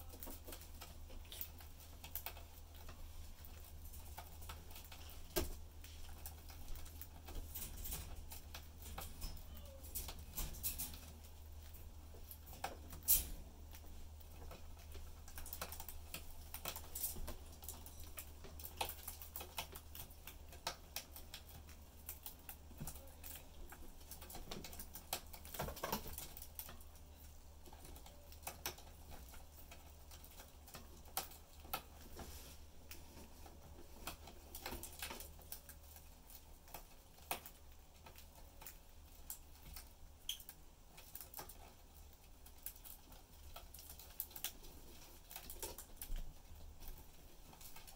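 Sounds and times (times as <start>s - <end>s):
birds cracking seeds: 0.0s - 47.9s
low steady hum: 0.0s - 47.9s.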